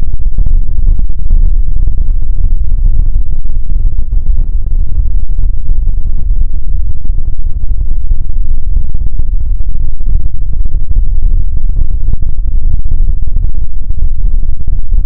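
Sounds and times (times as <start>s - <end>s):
distorted low rumble: 0.0s - 15.0s.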